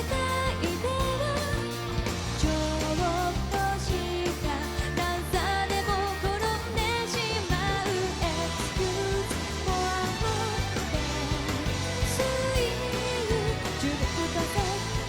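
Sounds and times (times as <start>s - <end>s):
live pop-rock band: 0.0s - 15.0s
person singing: 0.0s - 15.0s.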